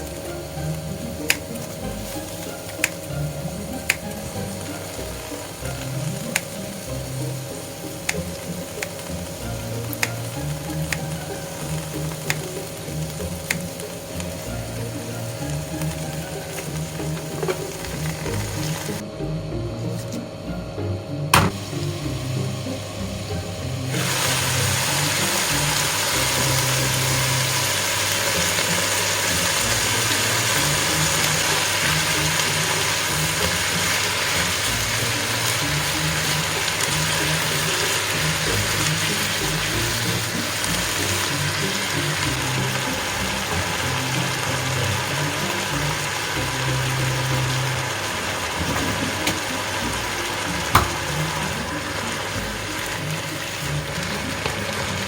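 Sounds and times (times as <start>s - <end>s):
noodles sizzling in a frying pan: 0.0s - 19.0s, 21.3s - 55.0s
background music with bass line: 0.0s - 55.0s.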